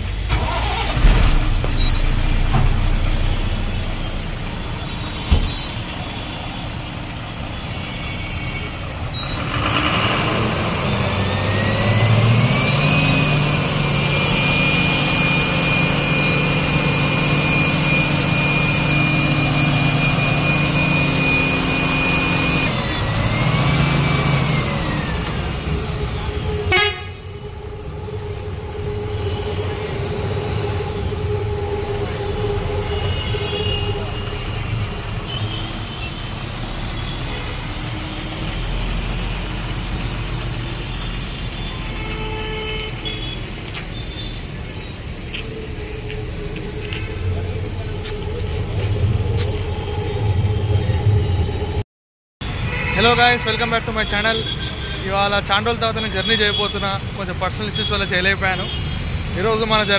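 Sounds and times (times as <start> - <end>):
low engine hum: 0.0 - 8.2, 8.9 - 51.8
high vehicle whine: 0.0 - 59.9.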